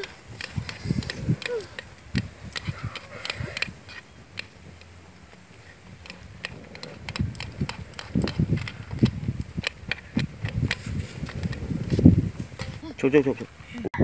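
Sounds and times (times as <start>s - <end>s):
chopsticks clicking on metal wok: 0.0s - 11.6s.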